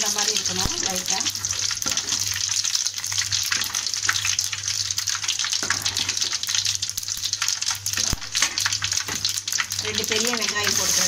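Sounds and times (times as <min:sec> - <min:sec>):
oil sizzling: 0:00.0 - 0:11.0
seeds crackling and popping: 0:00.0 - 0:11.0.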